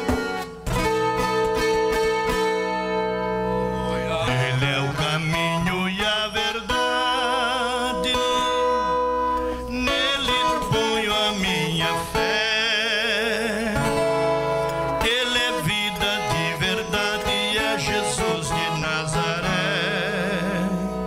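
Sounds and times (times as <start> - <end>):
strummed acoustic guitar: 0.0 - 21.0
man singing: 3.8 - 21.0.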